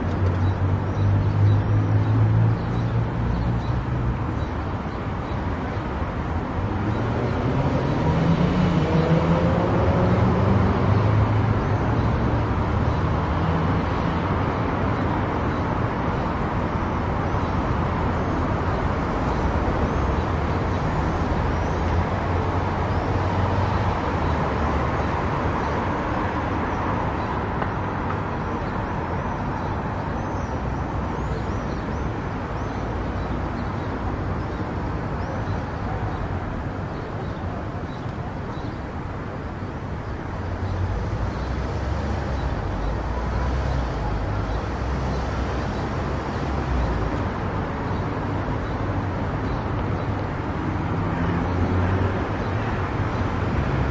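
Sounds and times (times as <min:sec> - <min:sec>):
road noise: 0:00.0 - 0:53.9.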